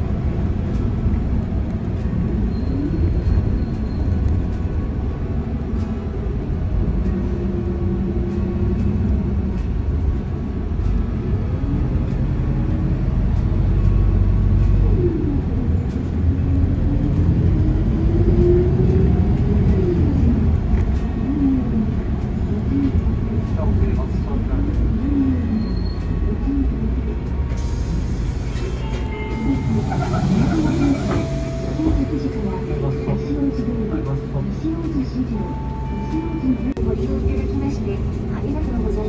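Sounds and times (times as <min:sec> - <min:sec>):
bus engine rumble: 0:00.0 - 0:39.0.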